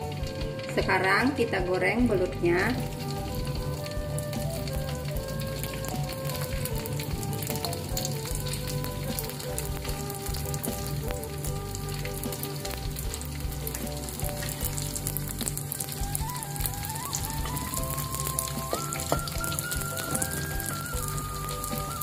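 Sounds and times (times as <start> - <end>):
eel sizzling in hot oil: 0.0 - 22.0.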